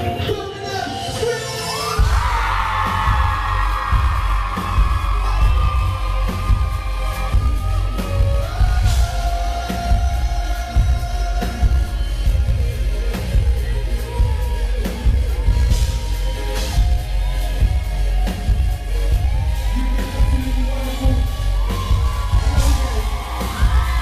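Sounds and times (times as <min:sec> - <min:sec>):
heavy bass and drum beat: 0:00.0 - 0:24.0.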